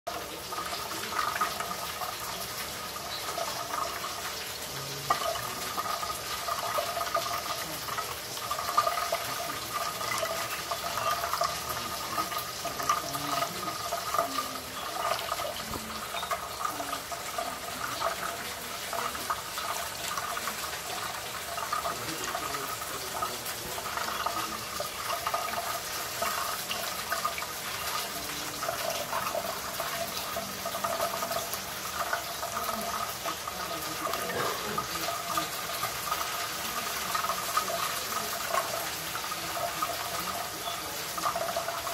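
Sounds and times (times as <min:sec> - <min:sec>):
tap water splashing onto plate: 0:00.1 - 0:41.9.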